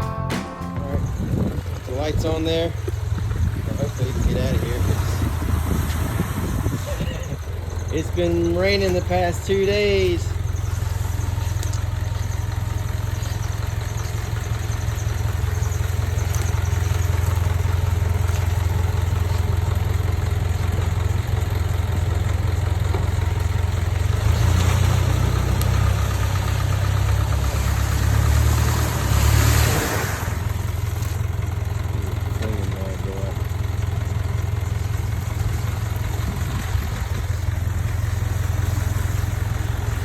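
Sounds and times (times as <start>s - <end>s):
vehicle engine idling and revving: 0.0s - 40.0s.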